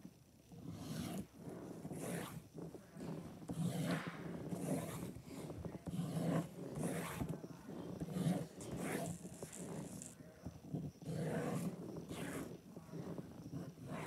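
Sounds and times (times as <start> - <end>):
scribbling on paper: 0.6 - 14.0.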